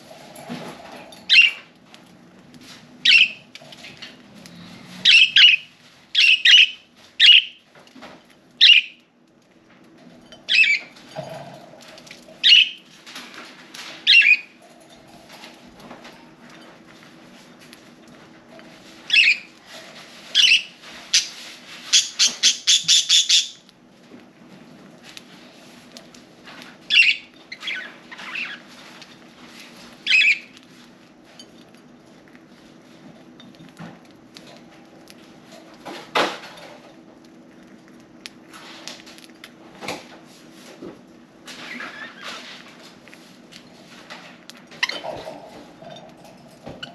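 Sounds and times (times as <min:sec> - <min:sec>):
birds pecking and cracking seed: 0:00.1 - 0:46.9.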